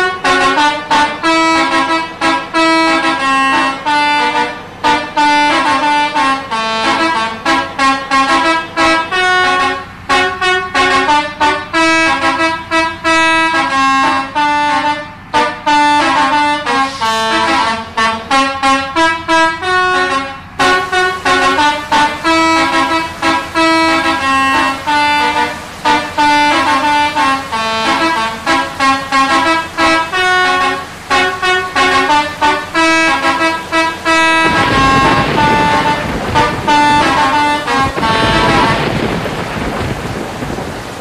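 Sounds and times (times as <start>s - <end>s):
bus horns playing a melody: 0.0s - 41.0s.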